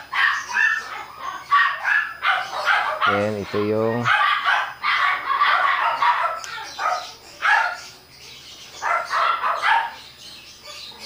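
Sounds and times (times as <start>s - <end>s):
dog barking: 0.0s - 7.9s, 8.8s - 10.0s, 10.6s - 11.0s.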